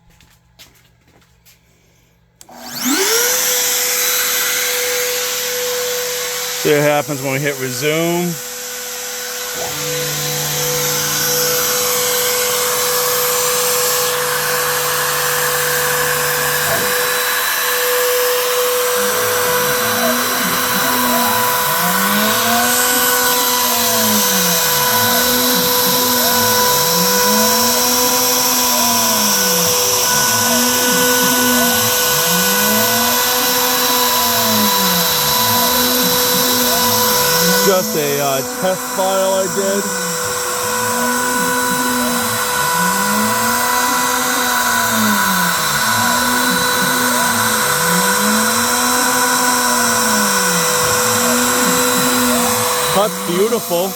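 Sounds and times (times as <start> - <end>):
motor whirring rising and falling: 2.4 - 53.9
router spindle whine: 2.4 - 53.9.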